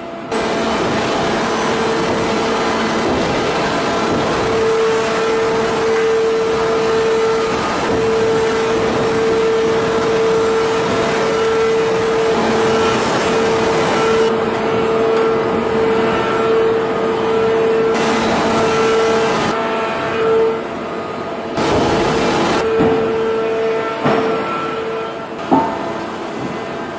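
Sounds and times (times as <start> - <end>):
hydraulic machinery droning: 0.0 - 26.9.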